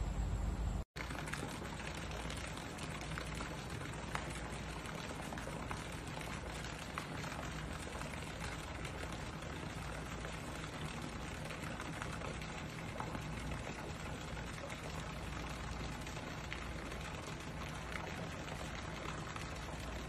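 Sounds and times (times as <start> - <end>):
low steady hum: 0.0 - 20.0
fountain water splashing: 1.0 - 20.0.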